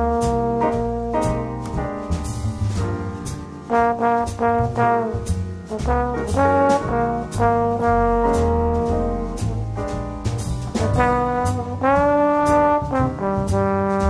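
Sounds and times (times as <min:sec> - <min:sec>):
drum beat: 0:00.0 - 0:14.0
upbeat jazz with brass horns: 0:00.0 - 0:14.0.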